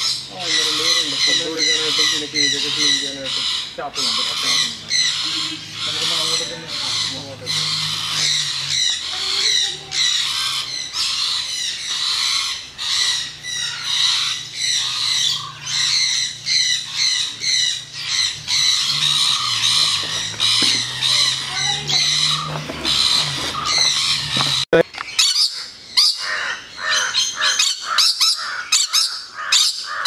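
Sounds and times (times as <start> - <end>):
steady low hum: 0.0 - 24.8
parrots squawking: 0.0 - 30.0.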